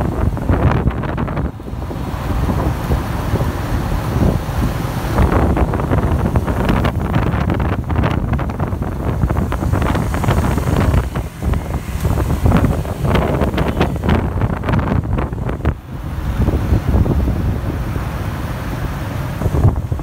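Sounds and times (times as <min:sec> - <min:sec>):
road and scooter traffic: 0:00.0 - 0:20.0
wind buffeting microphone: 0:00.0 - 0:20.0.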